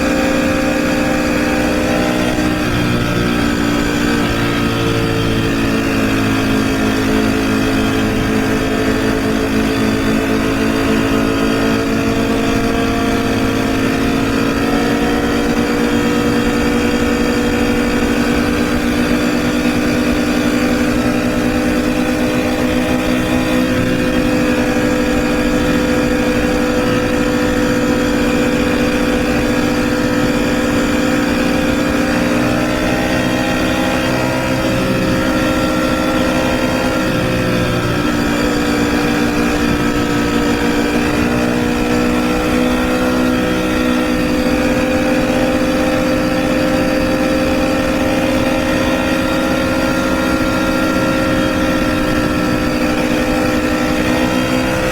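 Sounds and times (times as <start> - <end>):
motorcycle engine running: 0.0 - 54.9
rushing wind: 0.0 - 54.9.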